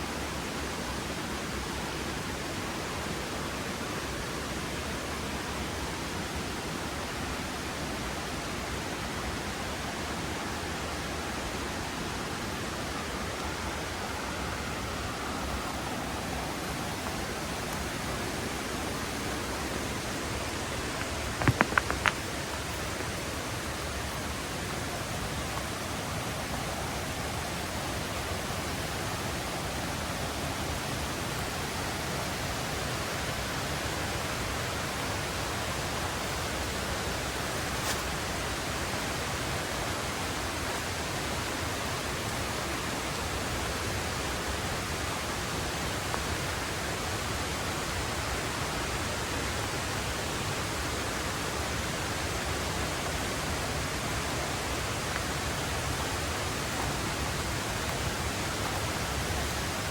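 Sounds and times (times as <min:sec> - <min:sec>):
mountain river rushing: 0:00.0 - 0:59.9.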